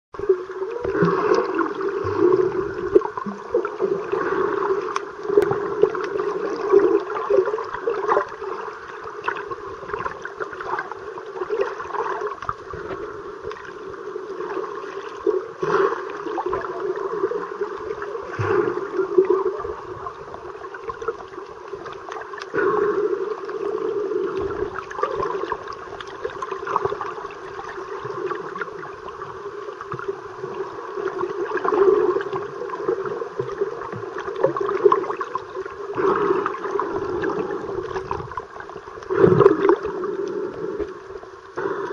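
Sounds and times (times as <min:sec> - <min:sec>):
water swirling underwater: 0:00.2 - 0:41.9.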